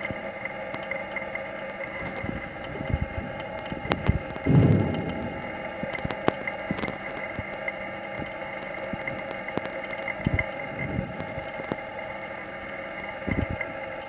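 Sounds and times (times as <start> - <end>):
steady hum: 0.1 - 14.0.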